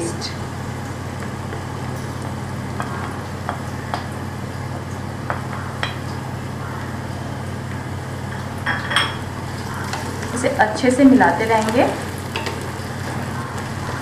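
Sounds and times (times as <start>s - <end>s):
onions frying in oil: 0.0s - 14.0s
steady low hum: 0.0s - 14.0s.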